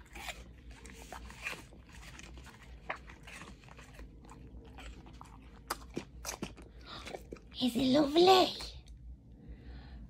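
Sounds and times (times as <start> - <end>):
dog crunching and chewing apple: 0.0 - 8.4.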